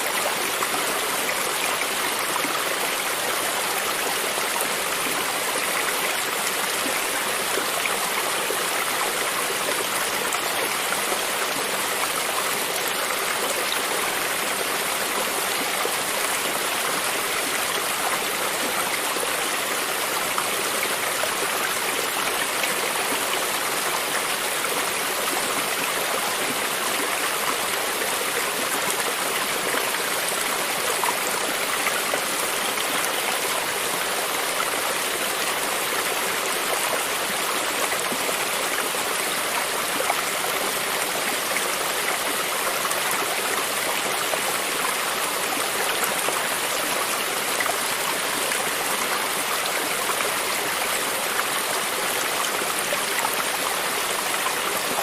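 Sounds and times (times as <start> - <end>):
stream of running water: 0.0 - 55.0.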